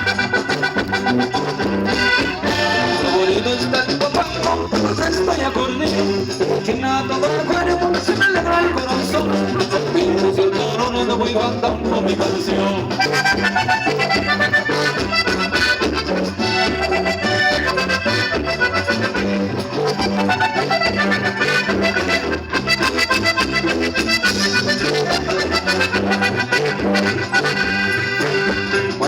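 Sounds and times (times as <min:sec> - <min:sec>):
accordion melody: 0:00.0 - 0:29.0
pulsing bass line: 0:00.0 - 0:29.0.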